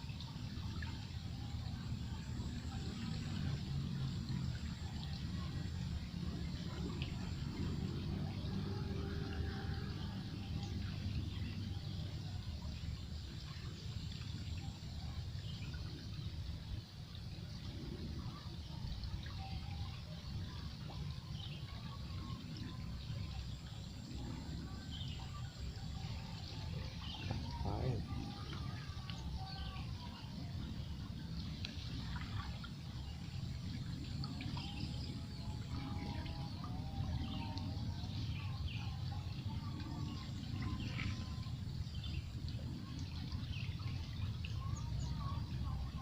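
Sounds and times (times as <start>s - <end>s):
faint bird or insect chirps: 0.0s - 46.0s
river water running: 0.0s - 46.0s
water trickling: 0.0s - 46.0s.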